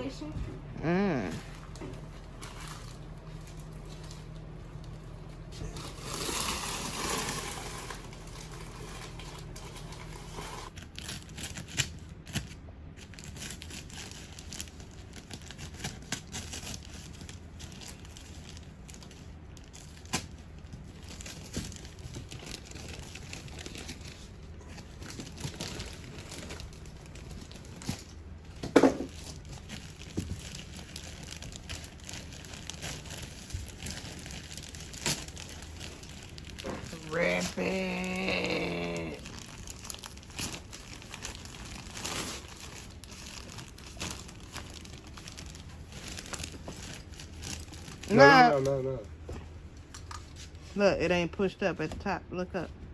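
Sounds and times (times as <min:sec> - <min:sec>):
insulation crinkling and tearing: 0:01.5 - 0:50.7.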